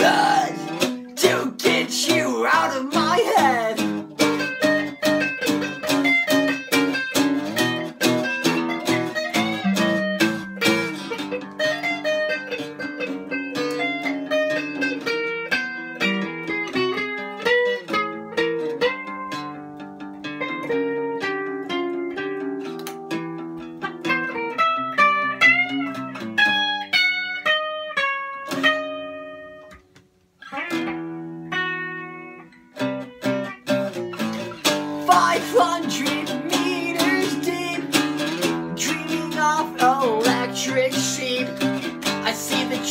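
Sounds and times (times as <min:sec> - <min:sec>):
electric guitars playing: 0:00.0 - 0:42.9.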